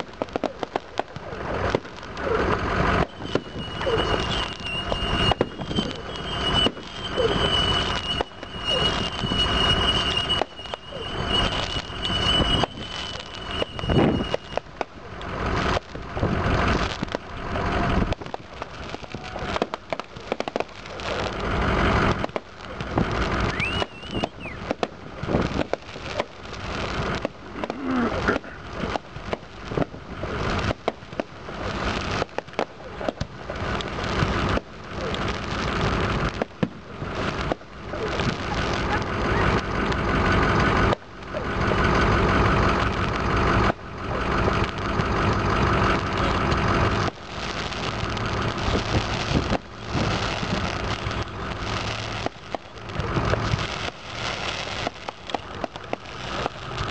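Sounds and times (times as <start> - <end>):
fireworks bangs and crackles: 0.0 - 56.9
high firework whistle: 0.4 - 28.6, 34.1 - 56.9.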